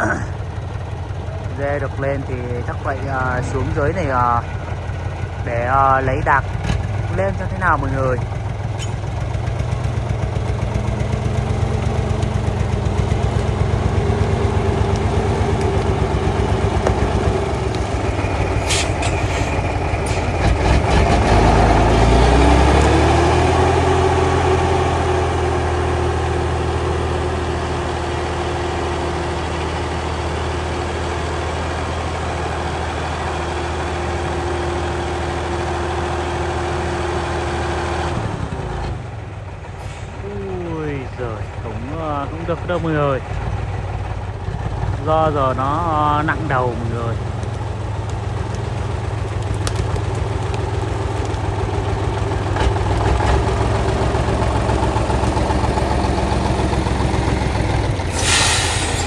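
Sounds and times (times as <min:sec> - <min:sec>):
truck engine labouring: 0:00.0 - 0:59.0.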